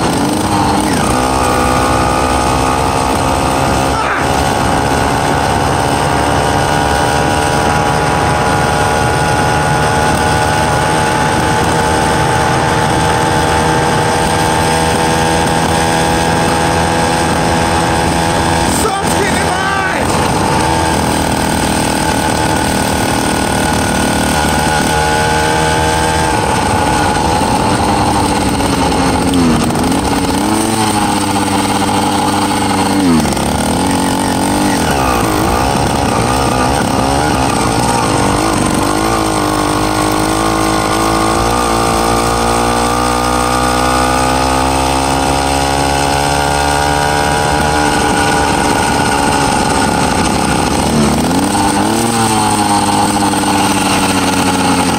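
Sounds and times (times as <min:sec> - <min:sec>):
two-stroke engine running: 0:00.0 - 0:54.9.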